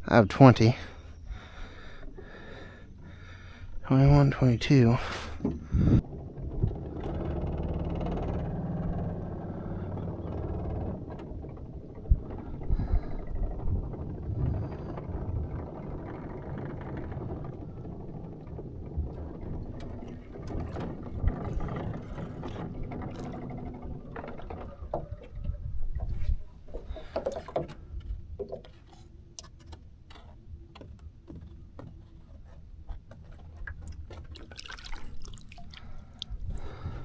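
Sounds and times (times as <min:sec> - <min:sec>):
boat motor humming: 0:00.8 - 0:03.9, 0:05.0 - 0:29.4, 0:30.6 - 0:37.0.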